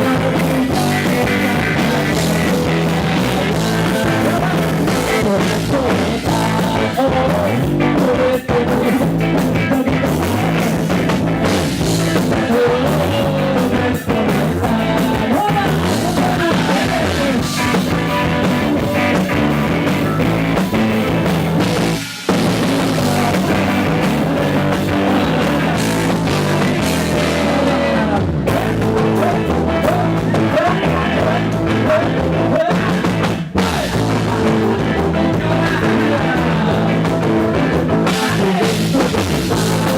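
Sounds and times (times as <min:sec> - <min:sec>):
live band music: 0:00.0 - 0:39.9.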